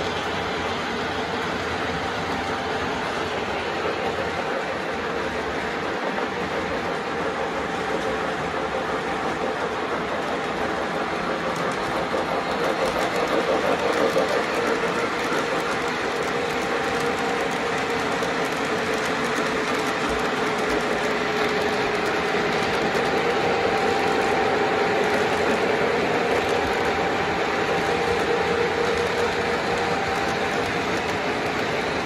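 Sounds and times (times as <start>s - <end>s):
light clicks of train wheels: 0.0s - 32.0s
model train wheels rumbling: 0.0s - 32.0s.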